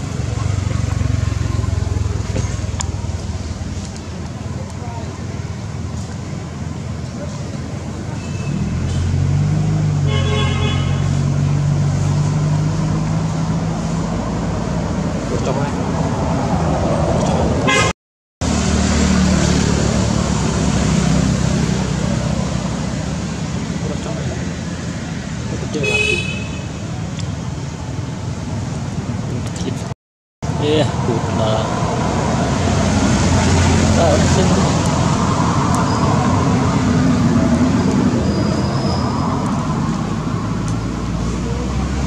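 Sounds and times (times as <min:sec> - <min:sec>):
traffic noise: 0:00.0 - 0:42.0
vehicle engine rumbling: 0:00.0 - 0:42.0.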